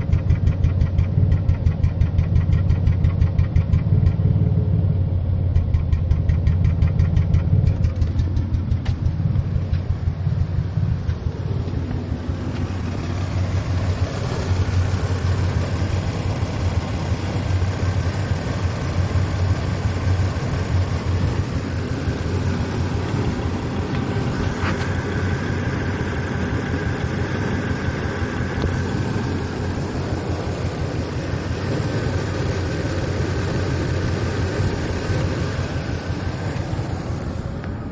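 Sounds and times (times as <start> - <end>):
engine idling roughly with misfire: 0.0 - 37.9.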